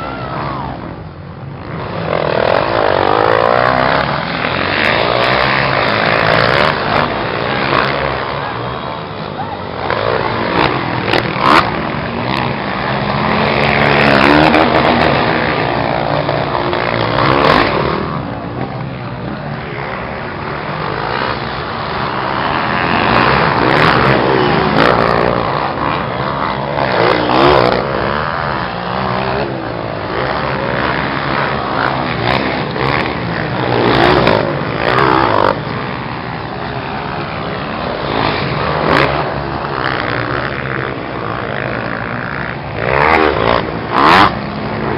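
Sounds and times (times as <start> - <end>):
motorcycle engines revving: 0.0 - 44.9.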